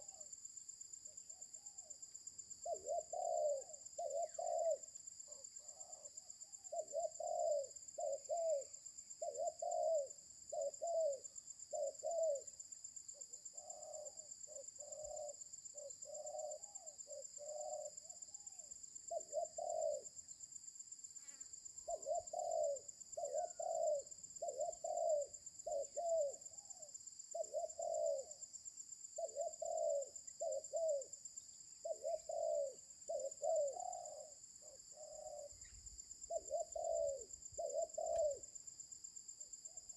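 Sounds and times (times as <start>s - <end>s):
dove cooing: 0.0s - 0.3s, 2.6s - 12.5s, 13.5s - 20.2s, 21.8s - 28.4s, 29.2s - 31.2s, 31.8s - 38.5s.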